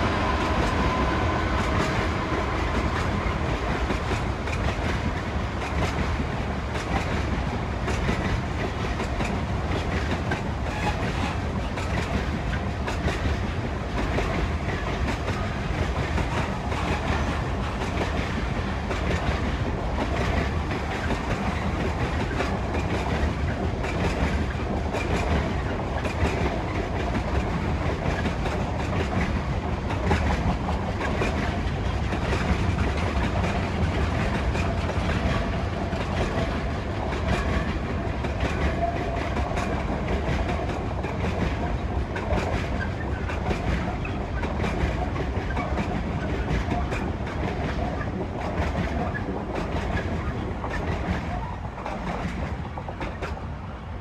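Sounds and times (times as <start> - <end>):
freight train rumbling past: 0.0 - 54.0
train wheels clicking over rail joints: 0.0 - 54.0.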